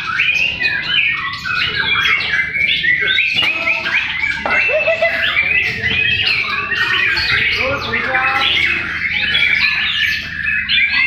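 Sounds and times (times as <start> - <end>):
birds singing whistled phrases: 0.0 - 11.0.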